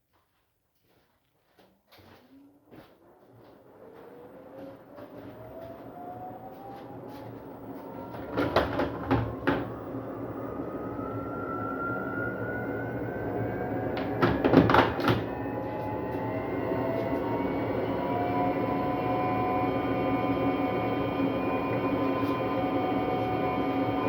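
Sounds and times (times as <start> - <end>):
washing machine motor whining: 2.4 - 24.0.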